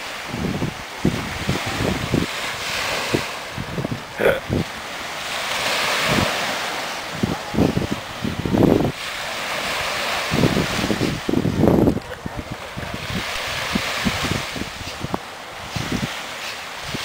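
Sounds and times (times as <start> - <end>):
small waves on sandy shore: 0.0 - 17.0
wind buffeting microphone: 0.0 - 17.0.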